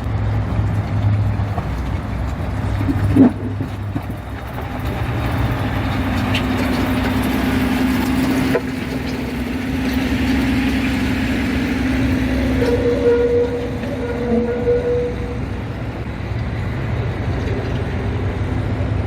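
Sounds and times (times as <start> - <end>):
heavy vehicle engine running: 0.0 - 19.0
road traffic: 0.0 - 19.0.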